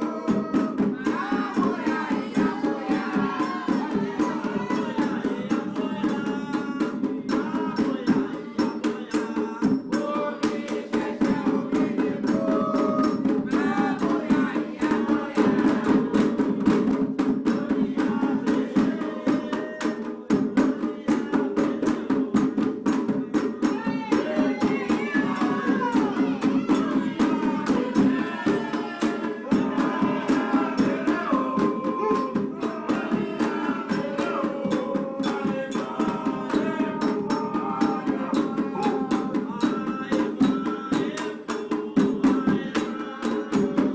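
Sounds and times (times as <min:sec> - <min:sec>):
hand drums drumming: 0:00.0 - 0:43.9
voices singing: 0:00.0 - 0:43.9.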